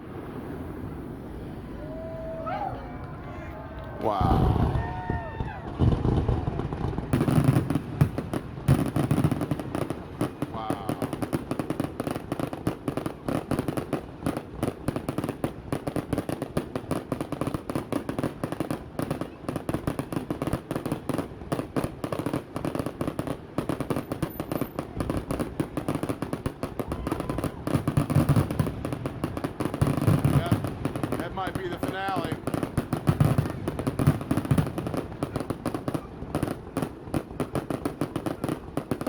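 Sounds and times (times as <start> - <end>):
fireworks cracking and popping: 3.0 - 39.0
heavy firework booms: 3.6 - 18.7, 20.8 - 39.0.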